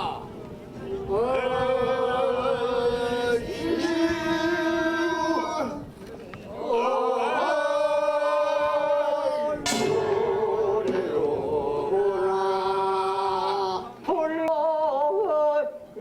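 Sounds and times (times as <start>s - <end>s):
men singing a chant: 1.1s - 5.8s, 6.6s - 15.7s.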